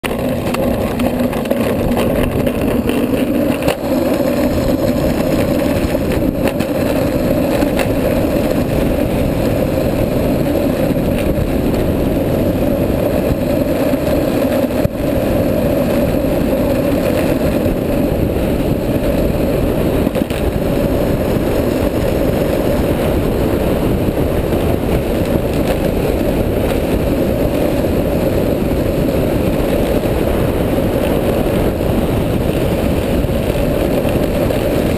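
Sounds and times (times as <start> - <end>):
wheels rolling on asphalt: 0.0 - 34.9
wind rushing over microphone: 0.0 - 34.9.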